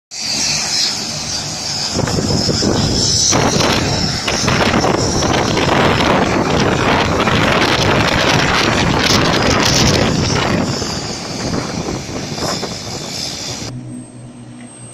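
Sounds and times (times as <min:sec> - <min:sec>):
turboprop engines running: 0:00.1 - 0:14.9
wind buffeting microphone: 0:01.2 - 0:13.7.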